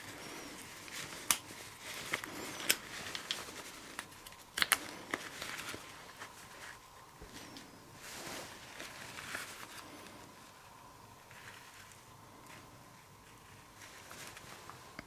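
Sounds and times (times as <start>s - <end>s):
gloved hands scraping and rustling: 0.0s - 15.0s.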